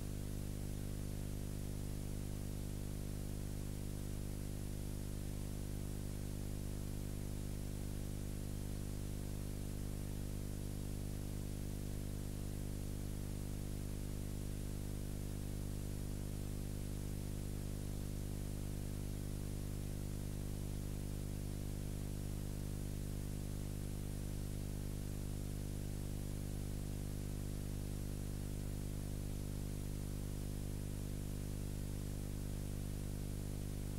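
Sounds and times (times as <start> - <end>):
low electrical hum: 0.0 - 33.9.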